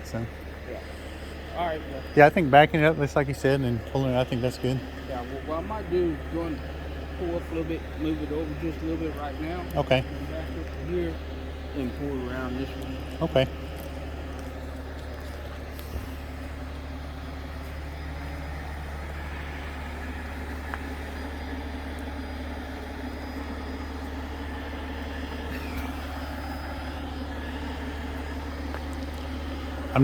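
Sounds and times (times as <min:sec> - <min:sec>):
diesel engine running at low revs: 0:00.0 - 0:30.0.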